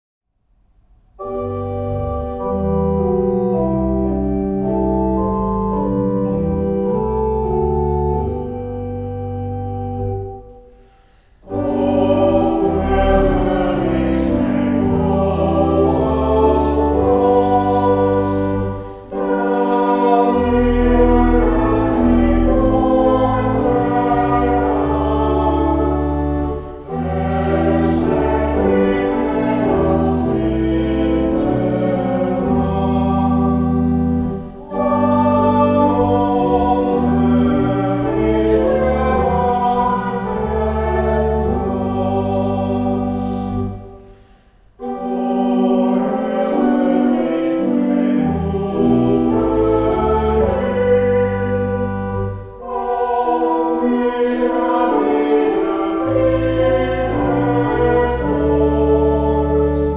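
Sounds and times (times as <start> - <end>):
organ playing chords: 1.2 - 59.9
voices singing a hymn: 1.2 - 59.9.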